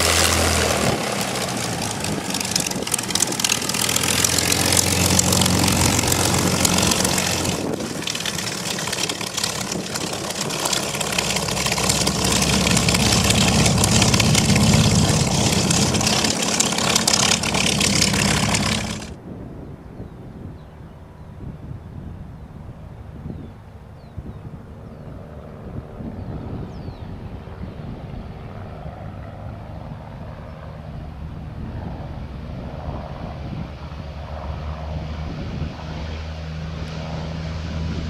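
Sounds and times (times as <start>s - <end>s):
aircraft engine and propeller: 0.0s - 19.2s, 22.3s - 38.0s.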